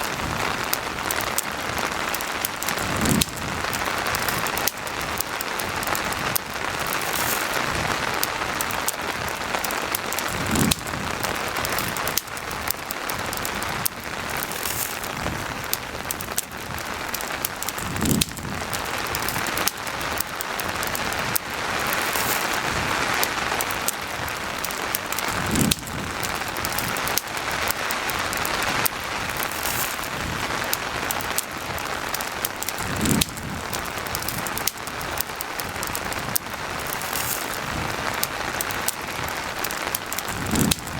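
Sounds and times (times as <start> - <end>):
campfire crackling: 0.0 - 40.9
steady rain falling: 0.0 - 40.9.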